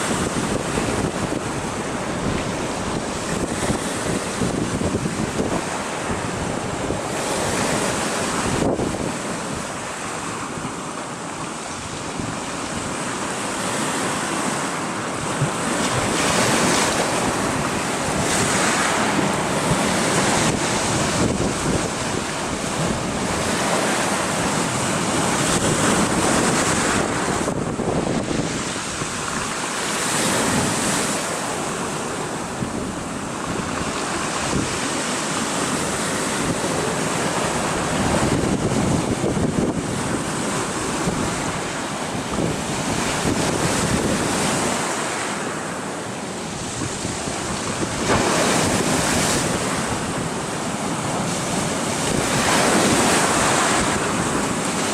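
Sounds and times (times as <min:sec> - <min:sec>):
wind buffeting microphone: 0:00.0 - 0:45.2, 0:46.2 - 0:54.9
sea waves breaking on beach: 0:00.0 - 0:54.9.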